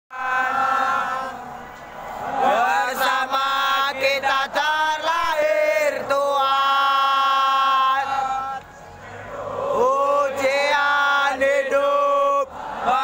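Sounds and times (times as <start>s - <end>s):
football supporters chanting: 0.1s - 13.0s.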